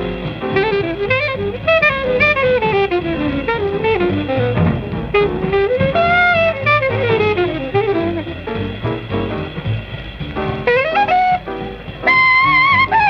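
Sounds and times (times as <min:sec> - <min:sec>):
bass and drums: 0:00.0 - 0:13.0
jazz horn playing quick runs: 0:00.0 - 0:13.0
jazz quintet playing: 0:00.0 - 0:13.0.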